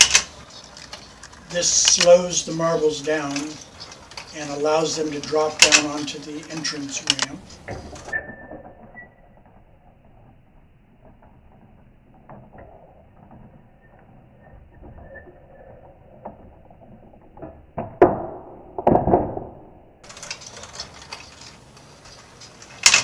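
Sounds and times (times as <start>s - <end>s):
mechanism clattering: 0.0s - 17.6s, 20.0s - 23.0s.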